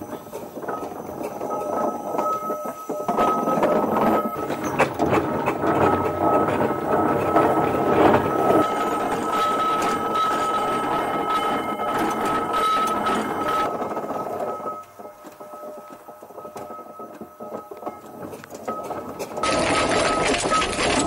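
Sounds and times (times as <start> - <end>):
steady high whine: 0.0 - 21.0
steam engine gearing clatter: 0.0 - 21.0.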